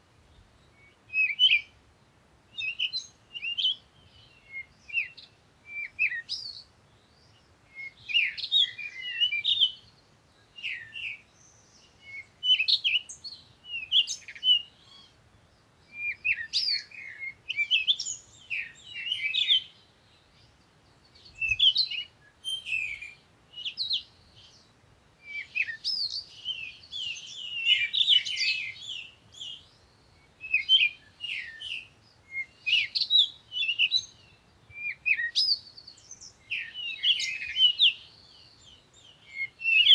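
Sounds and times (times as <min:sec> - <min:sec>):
small birds chirping: 0:00.2 - 0:39.9.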